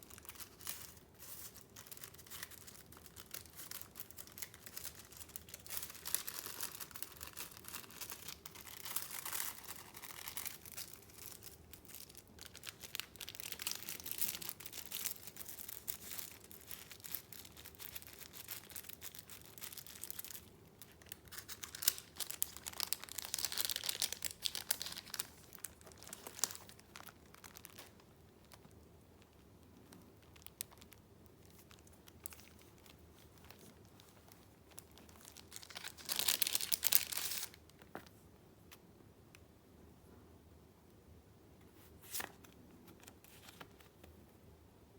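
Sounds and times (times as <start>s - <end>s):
paper rustling and crinkling: 0.1s - 28.7s, 30.2s - 38.2s, 41.8s - 44.2s.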